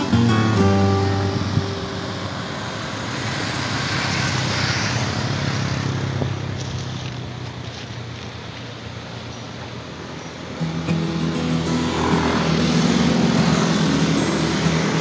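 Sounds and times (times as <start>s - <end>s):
motorcycles passing: 0.0s - 15.0s.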